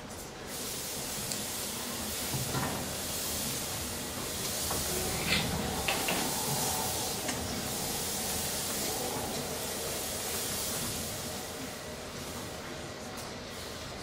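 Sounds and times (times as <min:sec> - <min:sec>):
fog machine hissing: 0:00.4 - 0:14.0.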